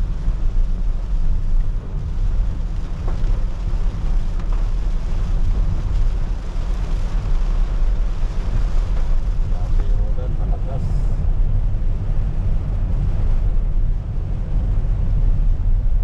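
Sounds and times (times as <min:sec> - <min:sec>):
car road and engine rumble: 0:00.0 - 0:16.0
rain and wet tyres hiss: 0:00.0 - 0:16.0.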